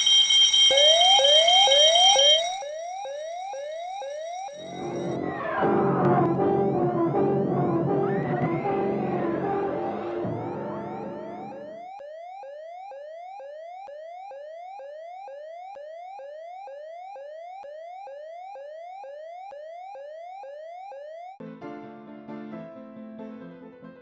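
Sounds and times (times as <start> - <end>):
fire alarm sweeping upward: 0.0 - 21.4.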